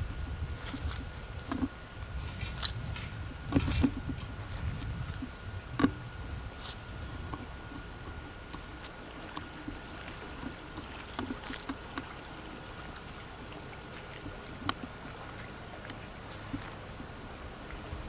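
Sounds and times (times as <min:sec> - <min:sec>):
faint constant tone: 0:00.0 - 0:18.0
steady hiss: 0:00.0 - 0:18.0.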